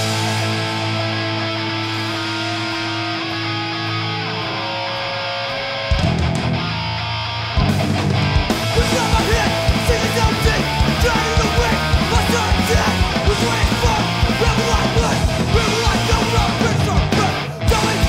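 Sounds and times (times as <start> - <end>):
ska punk band playing: 0.0 - 18.0.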